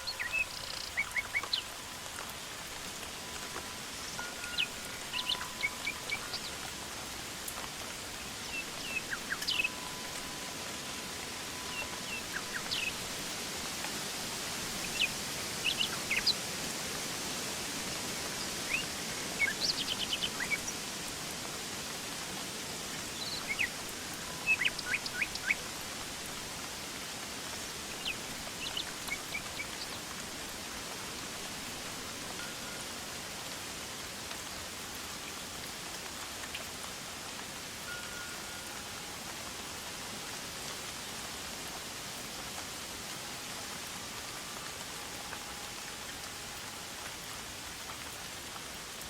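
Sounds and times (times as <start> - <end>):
steady high hiss: 0.0 - 49.0.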